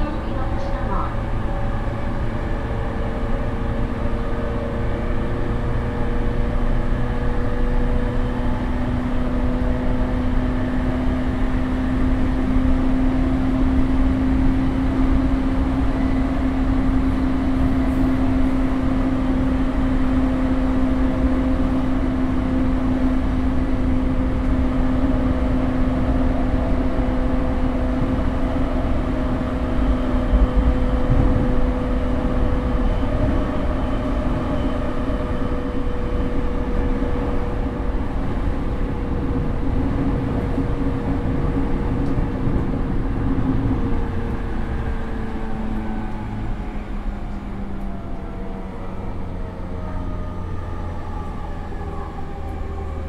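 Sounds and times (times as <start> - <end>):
wheels rumbling on rails: 0.0 - 53.0
electric train motor whine: 0.2 - 53.0.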